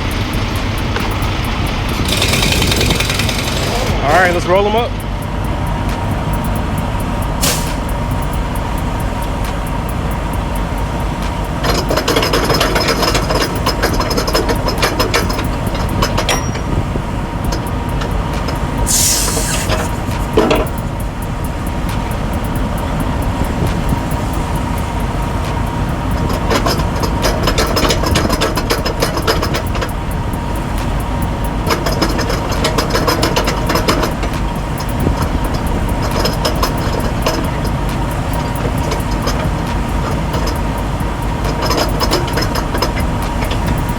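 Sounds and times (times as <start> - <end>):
air hiss: 0.0 - 43.9
diesel truck engine rumbling: 0.0 - 43.9.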